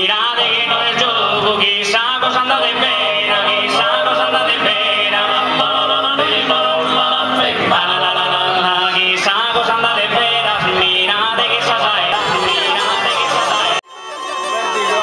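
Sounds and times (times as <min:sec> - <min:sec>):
men singing in close harmony: 0:00.0 - 0:13.8.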